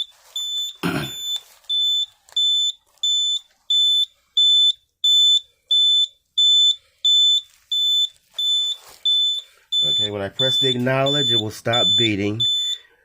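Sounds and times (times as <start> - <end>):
high-pitched alarm panel beeping: 0.0 - 12.9.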